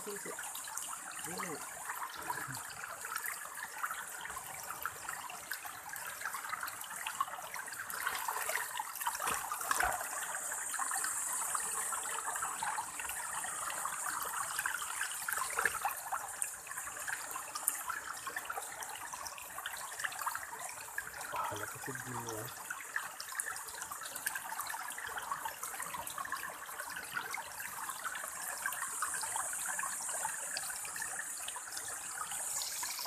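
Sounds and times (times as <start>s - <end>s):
river water splashing: 0.0s - 33.0s.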